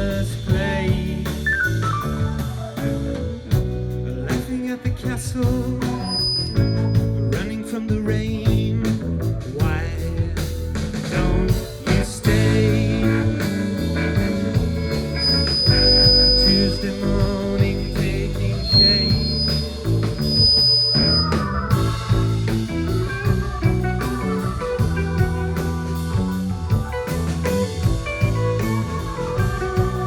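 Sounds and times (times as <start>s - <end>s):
electric guitar: 0.0s - 30.0s
live rock band playing: 0.0s - 30.0s.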